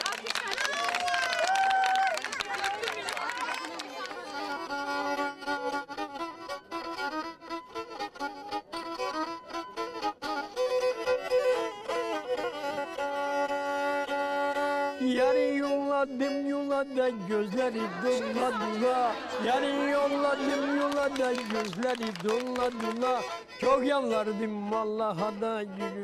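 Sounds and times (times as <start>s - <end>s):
bowed fiddle folk tune: 2.3s - 26.0s.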